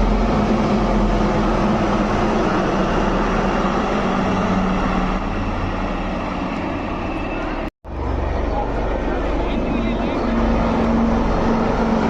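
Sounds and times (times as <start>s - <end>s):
military aircraft engine roar: 0.0s - 12.0s.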